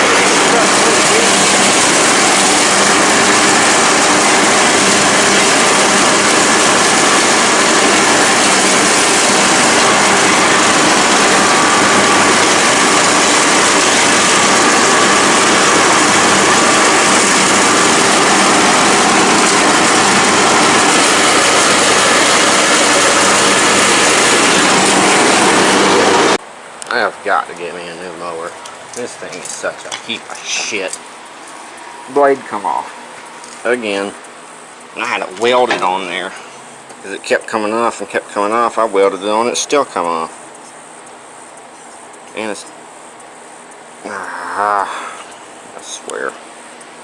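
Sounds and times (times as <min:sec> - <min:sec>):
lawn mower engine droning: 0:00.0 - 0:47.0.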